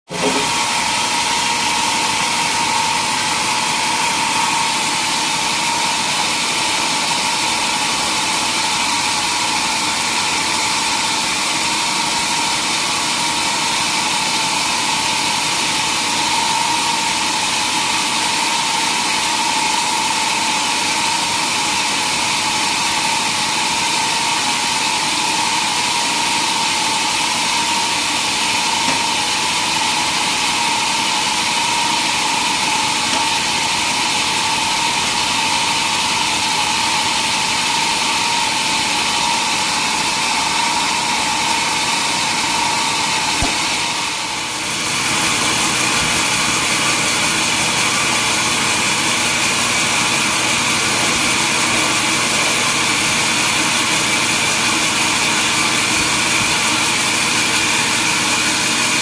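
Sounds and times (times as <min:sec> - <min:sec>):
sawmill machinery high whine: 0:00.1 - 0:59.0.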